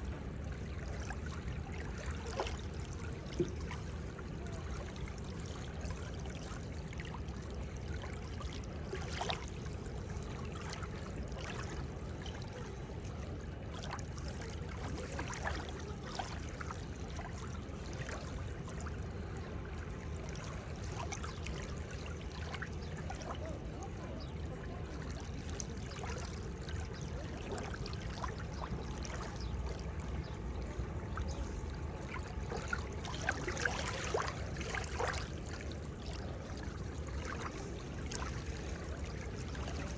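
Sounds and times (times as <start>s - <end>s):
seawater lapping at shore: 0.0s - 39.9s.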